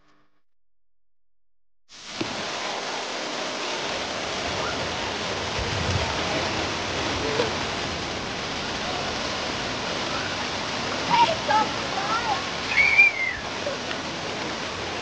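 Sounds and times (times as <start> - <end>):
water splashing into pool: 1.9 - 15.0.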